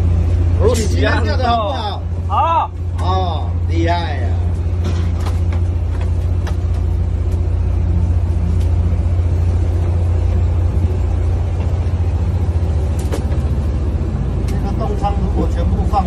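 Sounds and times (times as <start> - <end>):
boat diesel engine droning: 0.0 - 16.0.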